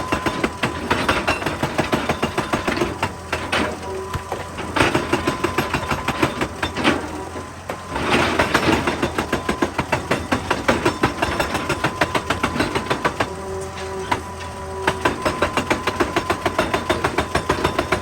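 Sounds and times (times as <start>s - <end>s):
excavator engine running: 0.0s - 18.0s
hydraulic rock breaker hammering rock: 0.0s - 18.0s.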